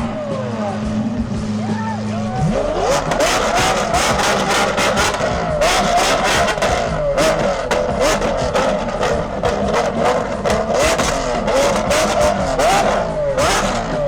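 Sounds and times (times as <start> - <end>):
car engine revving: 0.0 - 14.0
exhaust crackles: 0.0 - 14.0.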